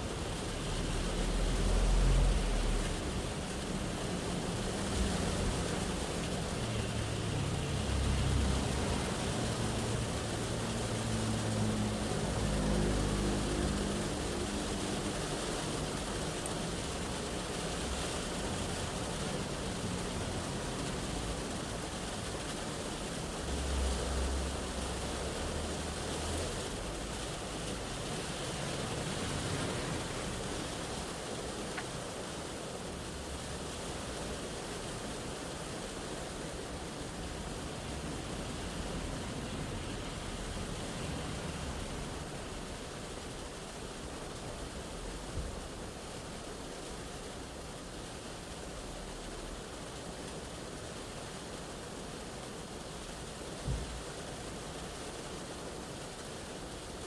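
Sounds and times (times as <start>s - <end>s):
road traffic rumble: 0.0s - 50.8s
rain on car roof: 0.0s - 57.0s.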